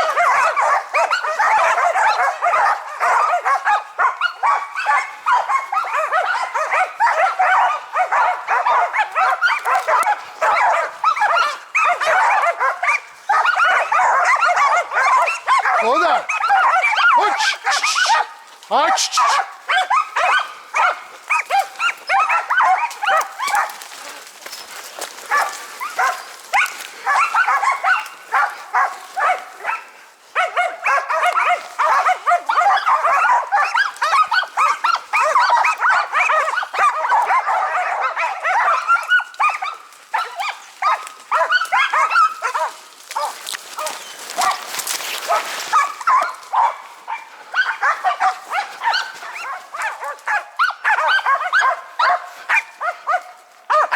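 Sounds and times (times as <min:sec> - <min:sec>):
dogs barking: 0:00.0 - 0:53.9.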